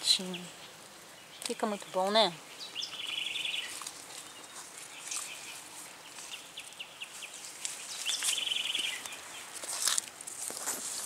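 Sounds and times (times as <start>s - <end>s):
songbird chirping and trilling: 0.0s - 9.9s
rustle of leaves: 0.0s - 11.0s.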